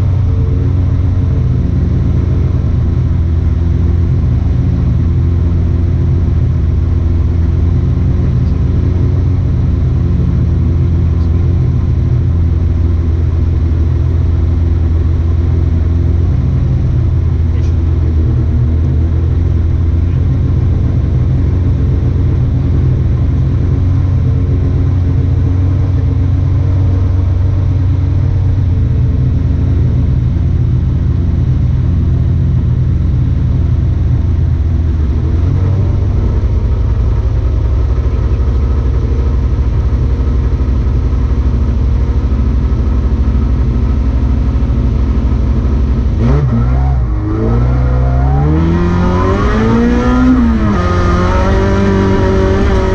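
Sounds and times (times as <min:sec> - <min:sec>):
rally car engine revving: 0:00.0 - 0:52.9.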